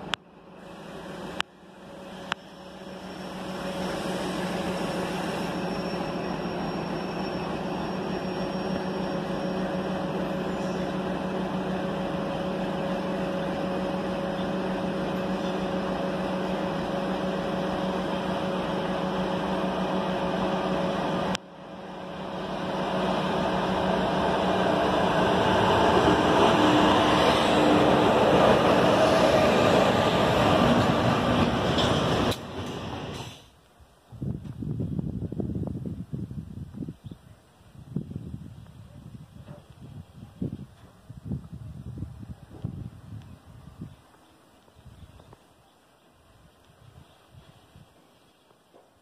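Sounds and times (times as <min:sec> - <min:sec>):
train rumbling on rails: 0:00.0 - 0:45.4
electric locomotive hum: 0:00.0 - 0:48.5.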